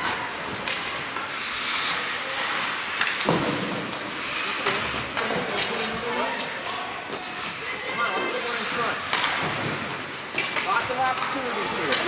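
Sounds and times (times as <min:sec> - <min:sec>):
hum of spectators: 0:00.0 - 0:12.0
skates hissing on ice: 0:00.0 - 0:12.0.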